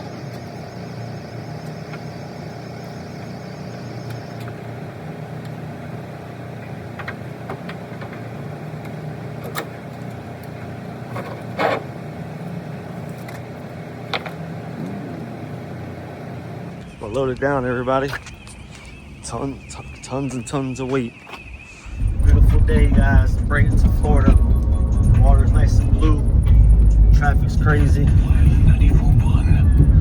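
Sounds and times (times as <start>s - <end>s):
road noise: 0.0s - 30.0s
truck engine running: 0.0s - 30.0s.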